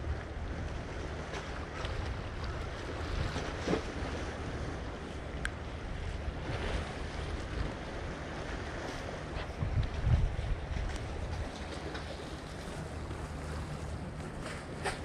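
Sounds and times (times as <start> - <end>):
small waves washing against concrete: 0.0 - 15.0
wind buffeting microphone: 0.0 - 15.0.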